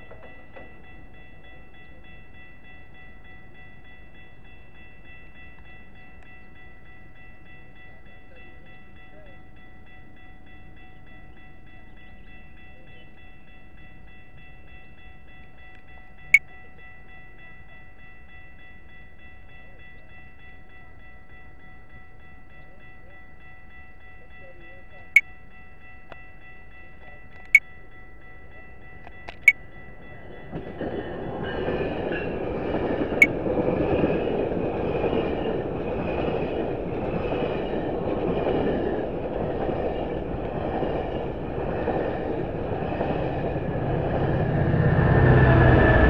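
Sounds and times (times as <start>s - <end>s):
railroad crossing bell ringing: 0.0s - 46.0s.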